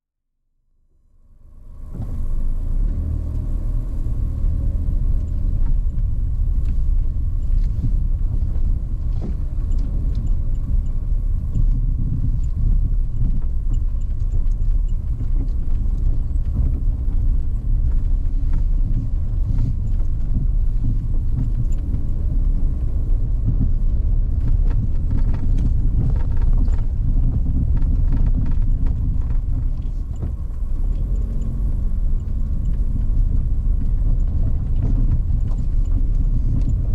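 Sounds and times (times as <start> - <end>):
car engine and road noise: 0.4 - 36.9.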